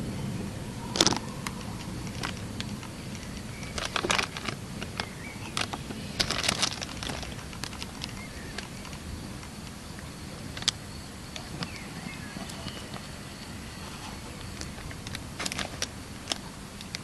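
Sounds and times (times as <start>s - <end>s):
rain and wind noise: 0.0s - 17.0s.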